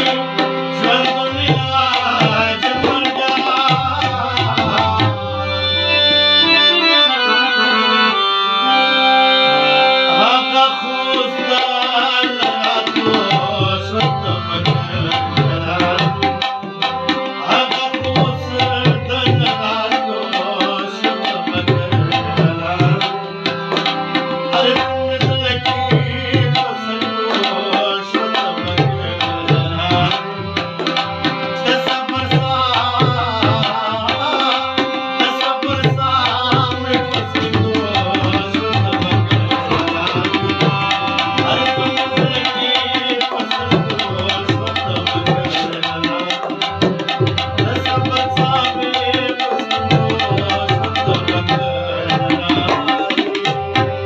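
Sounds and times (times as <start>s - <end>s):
harmonium chords and melody: 0.0s - 54.0s
tabla fast rhythm: 0.0s - 54.0s.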